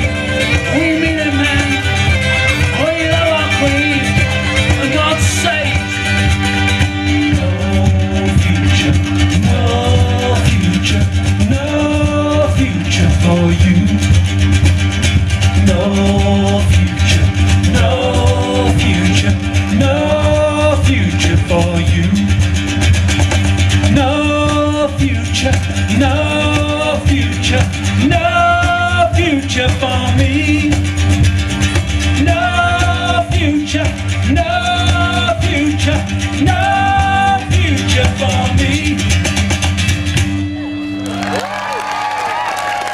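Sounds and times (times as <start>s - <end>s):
acoustic folk band playing: 0.0s - 42.9s.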